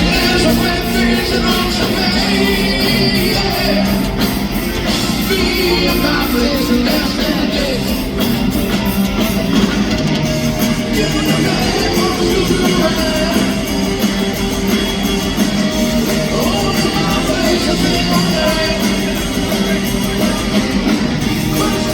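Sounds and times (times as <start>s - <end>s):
person singing: 0.0s - 8.6s, 10.6s - 14.7s, 15.8s - 21.9s
electric guitar: 0.0s - 21.9s
live rock band playing: 0.0s - 21.9s
steady drumbeat: 0.0s - 21.9s.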